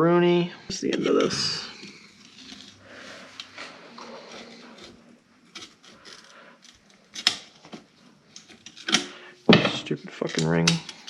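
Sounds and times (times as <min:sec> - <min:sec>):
light scraping of small parts: 0:00.8 - 0:11.0.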